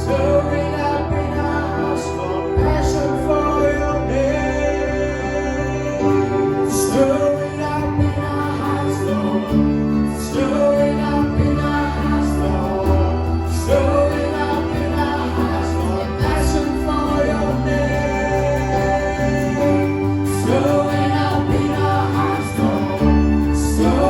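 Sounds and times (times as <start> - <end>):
slow worship music: 0.0 - 24.0
soft singing: 0.0 - 24.0.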